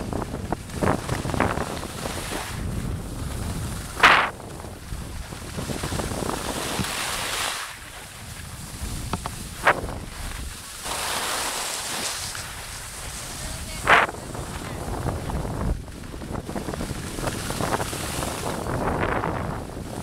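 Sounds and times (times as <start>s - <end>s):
wind buffeting microphone: 0.0s - 10.9s, 11.8s - 20.0s
skis scraping on snow: 0.0s - 20.0s.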